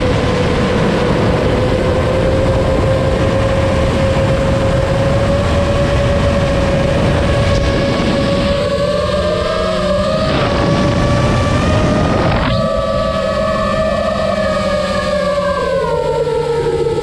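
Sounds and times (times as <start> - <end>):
wind rush: 0.0 - 14.3
drone motors whining: 0.0 - 17.0.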